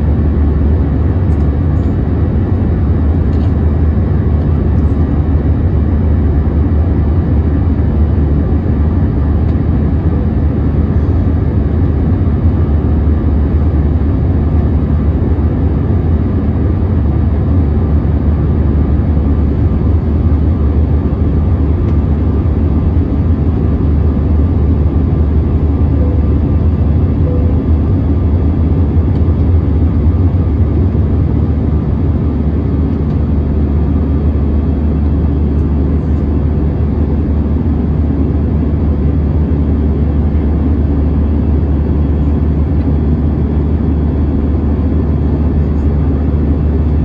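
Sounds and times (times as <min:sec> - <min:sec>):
aircraft cabin engine rumble: 0:00.0 - 0:47.0.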